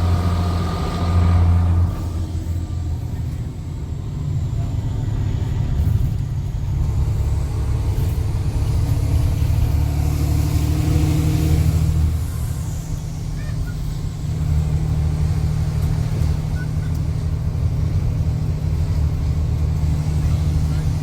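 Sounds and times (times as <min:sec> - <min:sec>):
diesel bus engine with throaty exhaust: 0:00.0 - 0:21.0.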